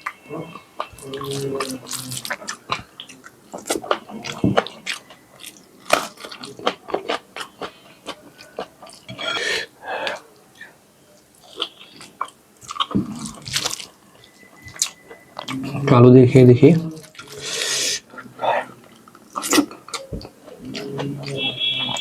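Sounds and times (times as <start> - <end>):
close-up chewing food: 0.0 - 22.0.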